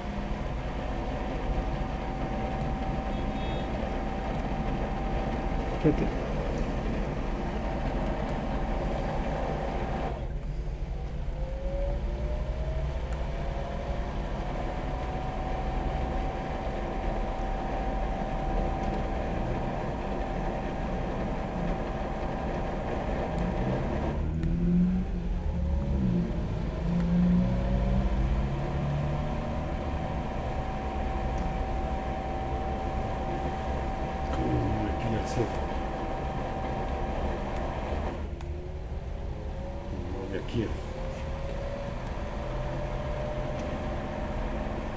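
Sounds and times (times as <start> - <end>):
booster pump motor whine: 0.0 - 10.4, 11.2 - 44.9.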